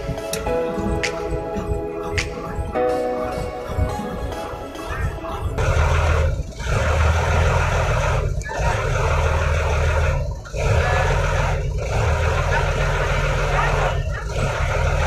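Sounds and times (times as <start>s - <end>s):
loud rushing noise: 0.0s - 12.4s
engine running: 0.0s - 15.0s.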